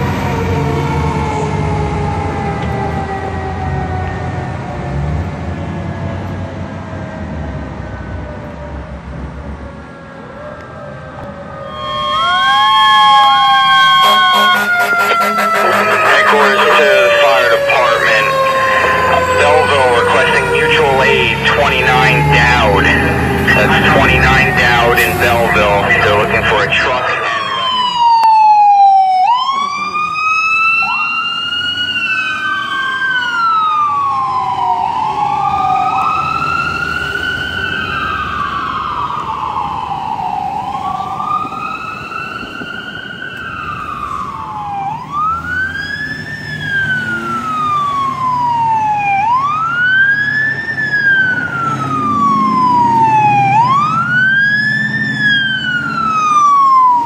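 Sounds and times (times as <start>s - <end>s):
emergency vehicle sirens wailing: 0.0s - 57.0s.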